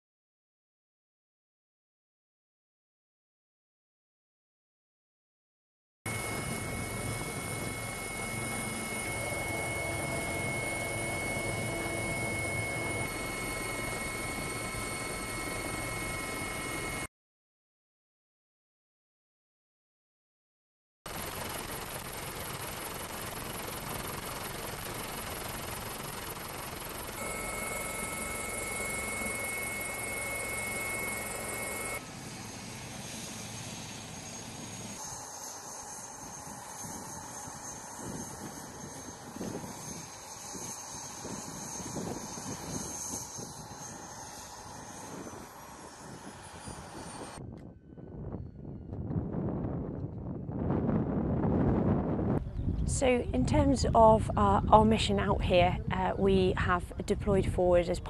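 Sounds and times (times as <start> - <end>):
helicopter rotor and turbine: 6.1 - 17.1, 21.1 - 58.0.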